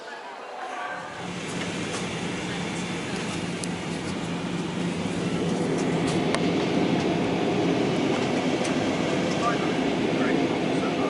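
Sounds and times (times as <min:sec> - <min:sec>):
airliner cabin engine rush: 0:01.0 - 0:11.0.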